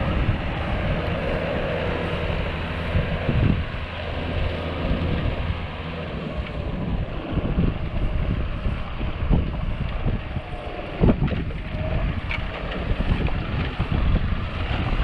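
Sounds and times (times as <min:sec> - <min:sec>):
tractor diesel engine drone: 0:00.0 - 0:15.0
wind buffeting microphone: 0:00.0 - 0:15.0.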